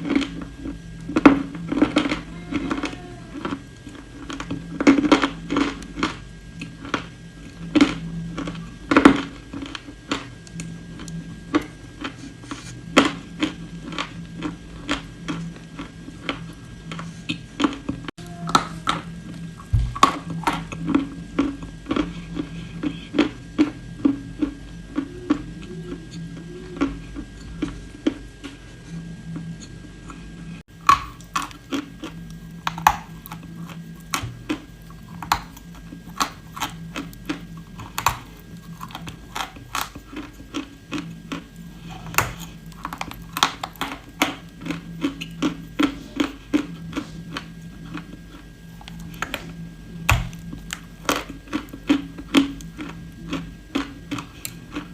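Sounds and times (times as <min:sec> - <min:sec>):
crunching and chewing dry clay: 0:00.0 - 0:54.9
low steady hum: 0:00.0 - 0:54.9.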